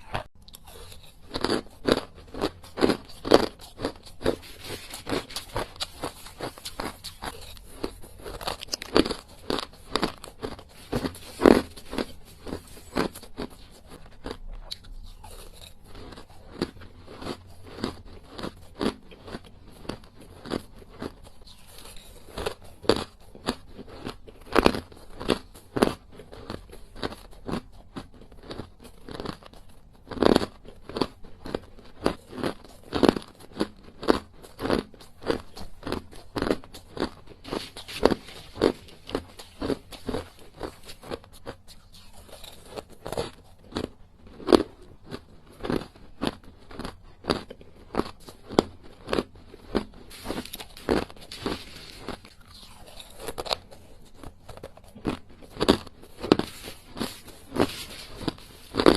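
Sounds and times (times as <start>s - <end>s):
chewing ice cubes: 0.0s - 58.9s.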